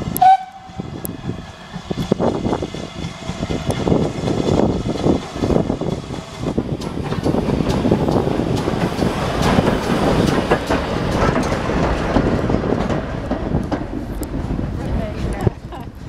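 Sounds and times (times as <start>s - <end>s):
steam locomotive rolling past: 0.0s - 16.0s
wheels clattering over rail joints: 0.9s - 16.0s.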